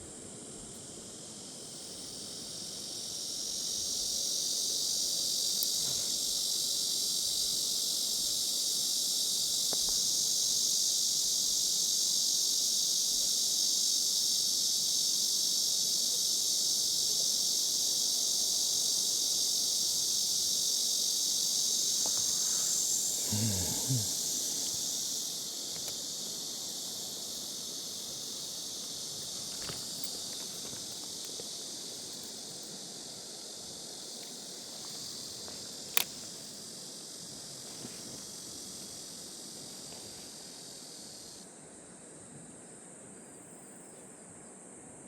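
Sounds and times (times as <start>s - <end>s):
insects buzzing: 0.0s - 45.0s.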